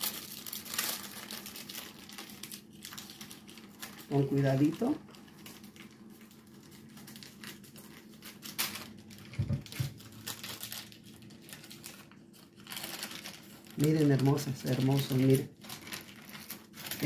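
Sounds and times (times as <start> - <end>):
waxed paper crinkling: 0.0 - 17.0.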